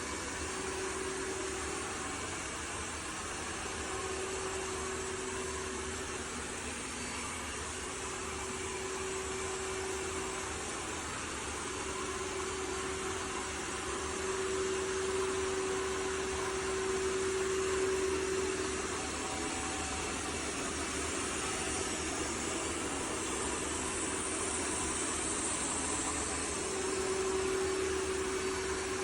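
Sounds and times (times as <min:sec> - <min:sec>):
robot vacuum motor hum: 0:00.0 - 0:29.0.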